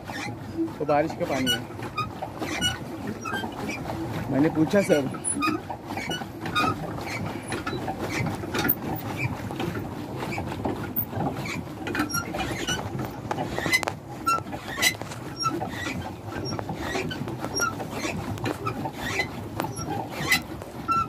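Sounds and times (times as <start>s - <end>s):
water churning: 0.0s - 21.0s
short squeaks and ticks: 0.1s - 9.4s, 10.3s - 21.0s.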